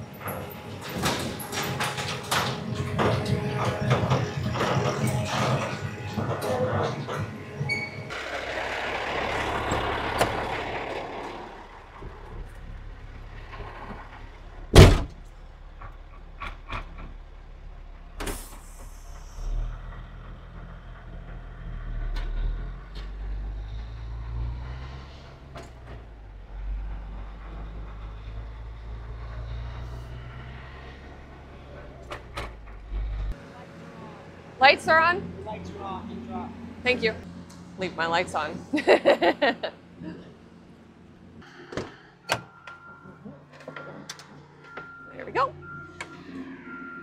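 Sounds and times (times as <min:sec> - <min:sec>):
truck engine running: 0:00.0 - 0:41.5.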